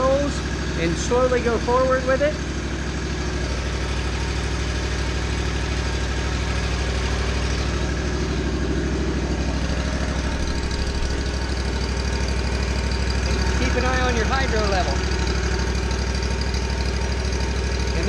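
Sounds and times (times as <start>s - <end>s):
gasoline engine idling: 0.0s - 18.0s.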